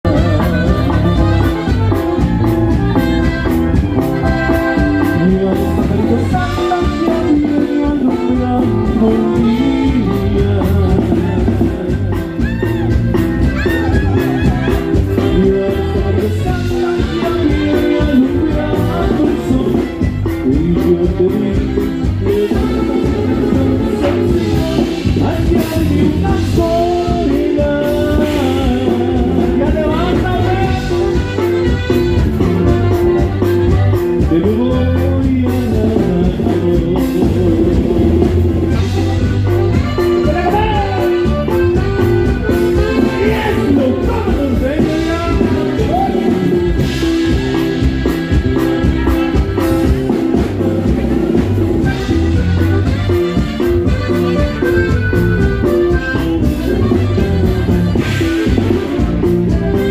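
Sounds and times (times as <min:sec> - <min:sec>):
accordion melody: 0:00.0 - 0:59.9
bass: 0:00.0 - 0:59.9
norteno band music: 0:00.0 - 0:59.9
person singing: 0:00.0 - 0:59.9
steady drum beat: 0:00.0 - 0:59.9.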